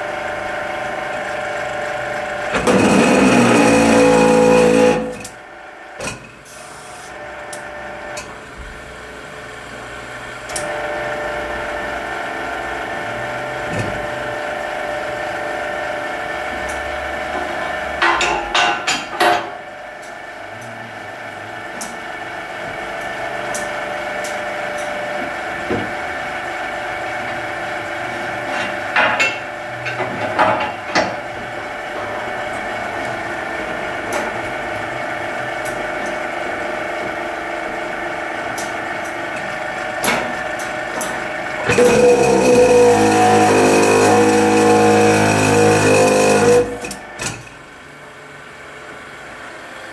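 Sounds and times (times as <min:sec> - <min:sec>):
workshop machine humming: 0:00.0 - 0:49.9.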